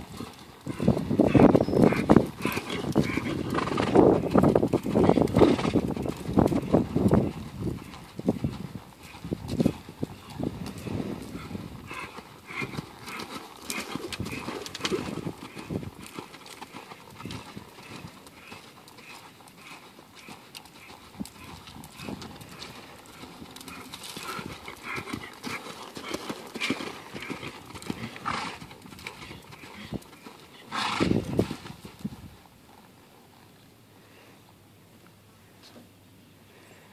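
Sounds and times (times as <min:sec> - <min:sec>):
horse hoofbeats on sand: 0:00.0 - 0:32.6.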